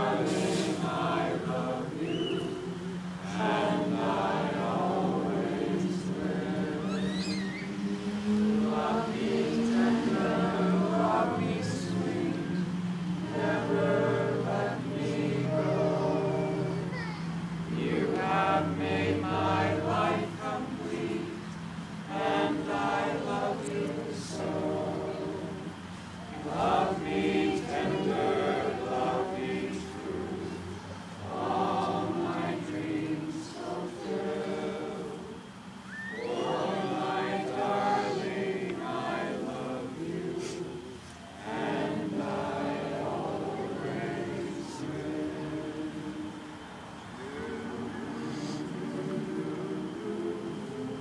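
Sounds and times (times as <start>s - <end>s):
crowd singing unaccompanied: 0.0s - 51.0s.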